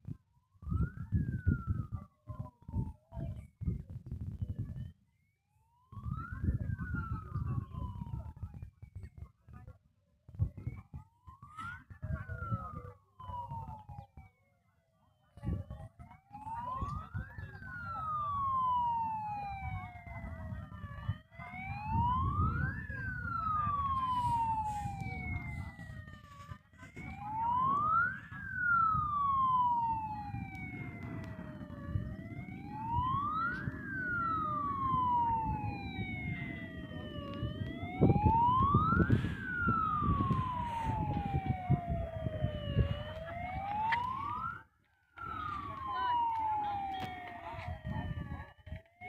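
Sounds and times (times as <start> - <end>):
fire engine siren wailing: 0.5 - 3.5, 5.6 - 9.0, 10.6 - 49.0.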